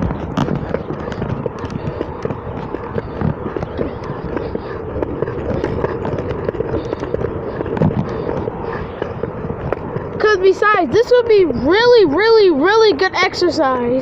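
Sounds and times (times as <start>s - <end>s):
wheels rolling on concrete: 0.0s - 14.0s.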